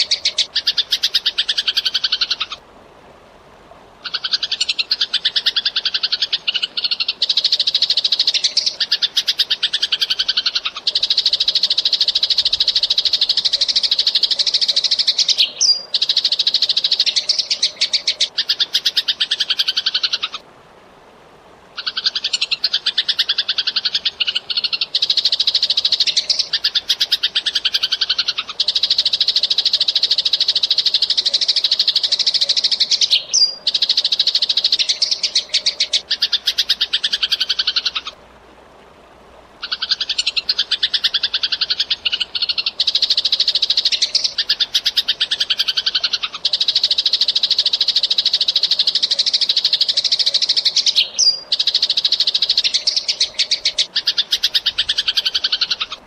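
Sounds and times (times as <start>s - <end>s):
sparrow chirping: 4.0s - 20.4s, 21.8s - 38.1s, 39.6s - 56.0s.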